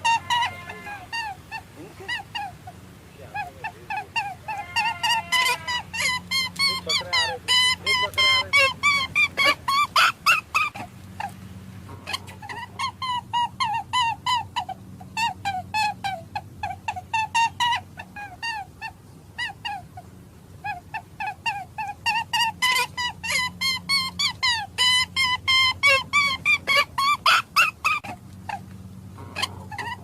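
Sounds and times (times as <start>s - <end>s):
rabbit squeaking: 0.0s - 20.0s, 20.6s - 30.0s.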